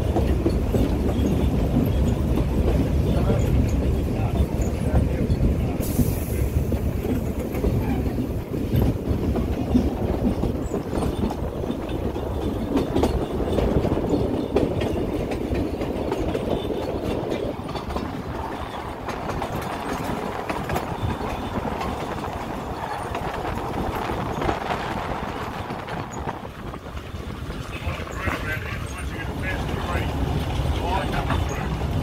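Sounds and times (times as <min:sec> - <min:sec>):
train wheels rumbling: 0:00.0 - 0:32.0
wheels clacking over rail joints: 0:00.0 - 0:32.0.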